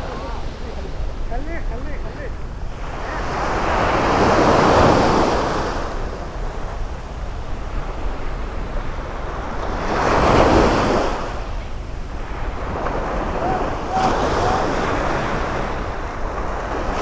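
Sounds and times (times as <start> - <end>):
sea waves washing ashore: 0.0 - 17.0
wind rumbling on microphone: 0.0 - 17.0.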